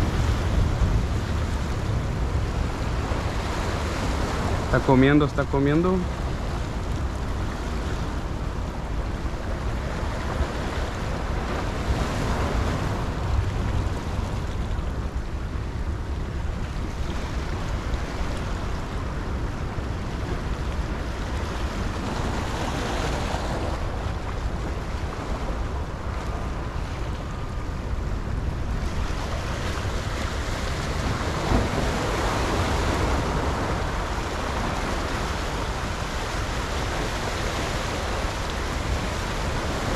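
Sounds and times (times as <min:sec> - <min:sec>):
ocean surf washing over rocks: 0:00.0 - 0:39.9
wind rumble on microphone: 0:00.0 - 0:39.9.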